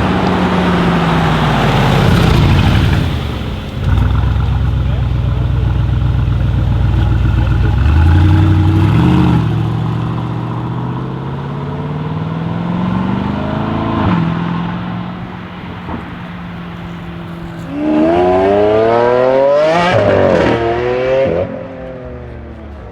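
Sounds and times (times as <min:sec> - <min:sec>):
car engine accelerating: 0:00.0 - 0:22.9.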